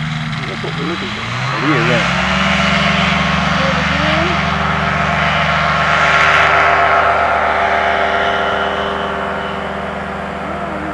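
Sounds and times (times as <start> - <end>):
ultralight aircraft engine and propeller: 1.2 - 10.8.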